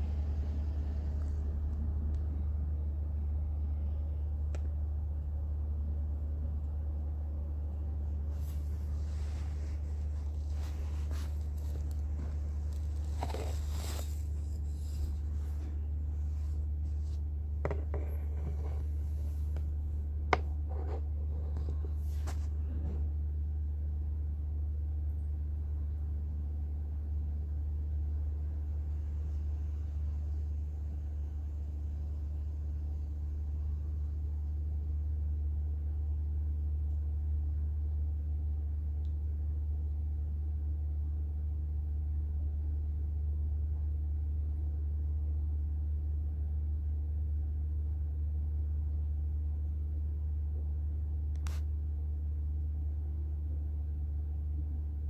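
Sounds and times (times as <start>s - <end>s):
steady low rumble: 0.0s - 45.5s
steady low hum: 0.0s - 55.0s.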